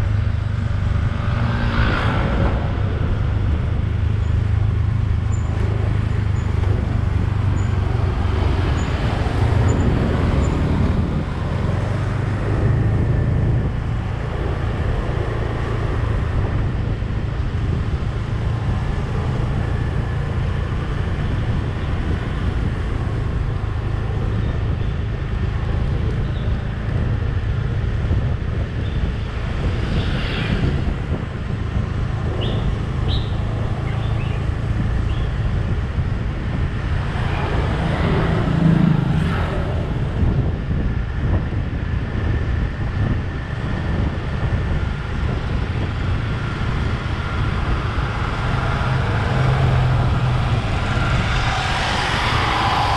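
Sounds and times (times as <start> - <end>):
vehicle engine and tyre rumble: 0.0 - 52.9.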